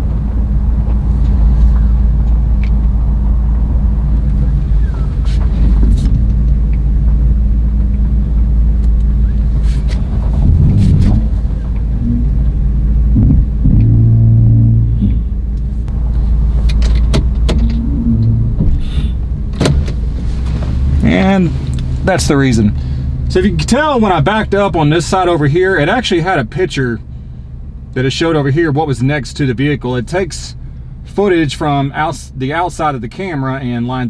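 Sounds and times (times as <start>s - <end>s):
truck engine humming: 0.0s - 34.0s.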